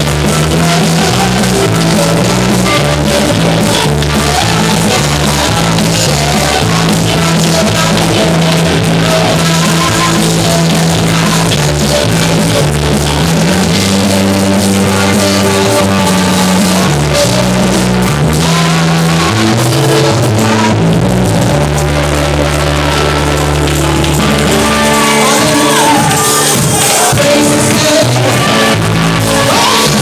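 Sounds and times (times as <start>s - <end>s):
loud band music: 0.0s - 30.0s.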